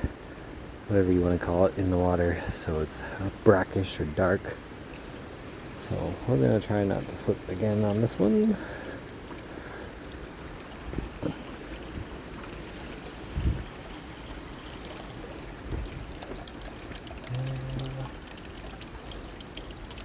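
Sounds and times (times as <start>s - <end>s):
river water trickling and pouring: 0.0s - 20.0s.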